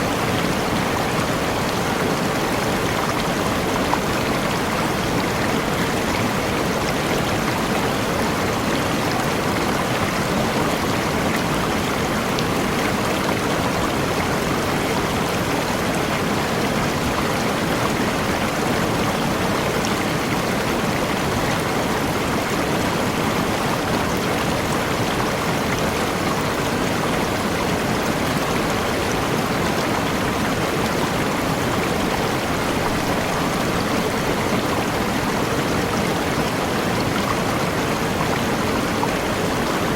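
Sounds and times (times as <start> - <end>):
stream running: 0.0 - 39.9
waterfall: 0.0 - 39.9.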